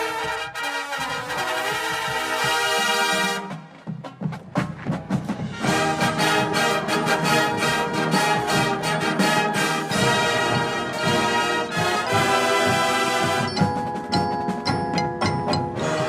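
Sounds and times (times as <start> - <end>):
marching band playing: 0.0 - 16.0
drum strikes: 1.6 - 16.0.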